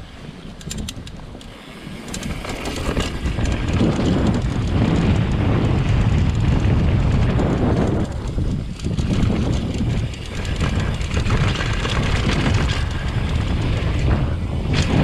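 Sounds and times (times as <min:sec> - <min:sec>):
bike tyres rolling on dirt: 0:00.0 - 0:15.0
wind buffeting microphone: 0:00.0 - 0:15.0.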